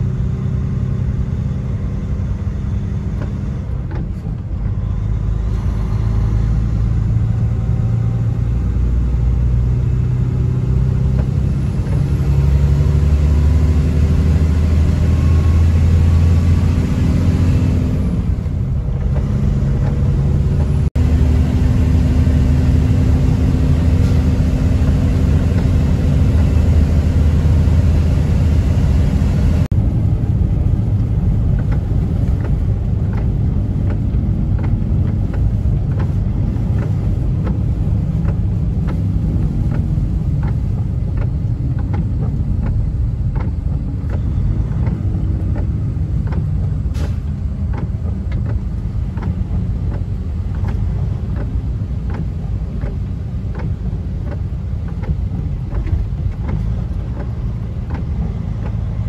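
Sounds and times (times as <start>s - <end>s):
truck engine running: 0.0s - 59.0s
tyre noise on wet road: 0.0s - 59.0s.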